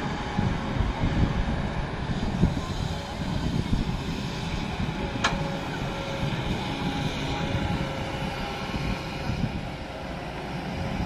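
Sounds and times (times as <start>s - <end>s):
excavator diesel engine droning: 0.0s - 11.0s.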